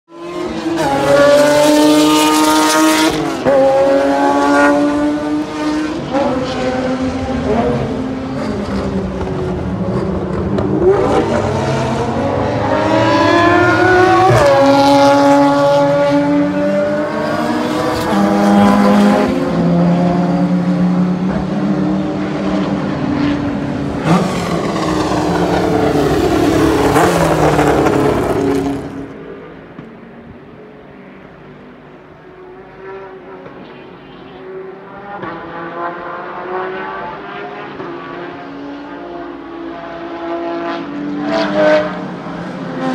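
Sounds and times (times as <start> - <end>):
race car engines at full throttle: 0.1 - 42.9.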